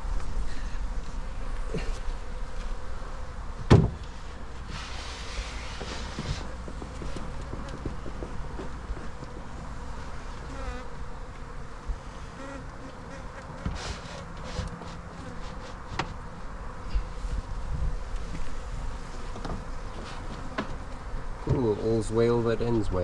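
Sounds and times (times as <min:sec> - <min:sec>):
bees buzzing: 0:00.0 - 0:22.4.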